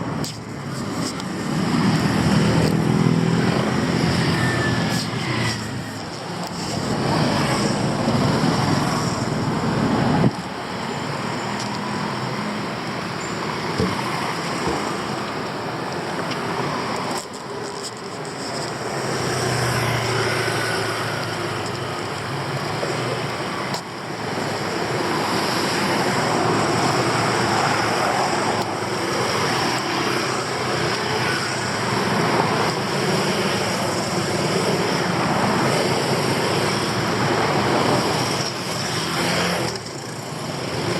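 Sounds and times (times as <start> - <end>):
passing cars and motorbikes: 0.0 - 40.9
rumble of road noise: 0.0 - 40.9.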